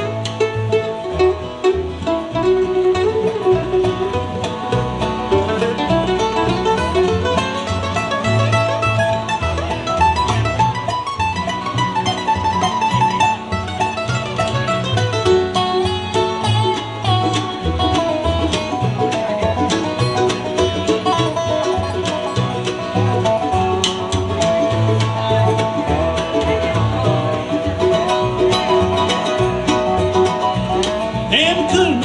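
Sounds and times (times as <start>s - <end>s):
banjo picking: 0.0s - 32.0s
guitar picking: 0.0s - 32.0s
pulsing bass: 0.0s - 32.0s.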